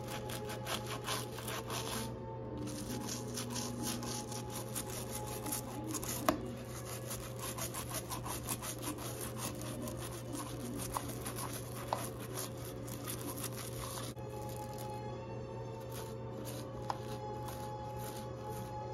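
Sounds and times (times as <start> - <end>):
toothbrush scrubbing plastic: 0.0 - 15.0, 15.8 - 18.9.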